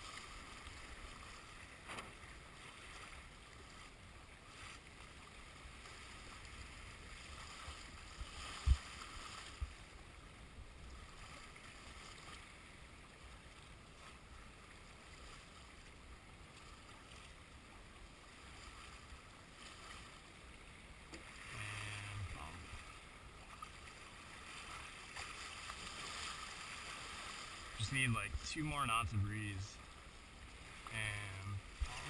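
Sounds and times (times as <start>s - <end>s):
water washing around boat: 0.0s - 32.0s
wind: 0.0s - 32.0s.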